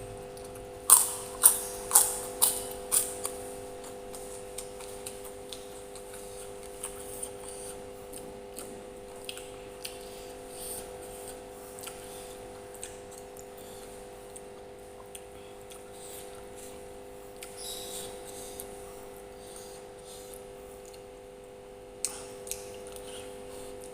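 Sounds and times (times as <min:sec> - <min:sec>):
electrical hum: 0:00.0 - 0:23.9
chewing with clicks and smacks: 0:00.3 - 0:23.9.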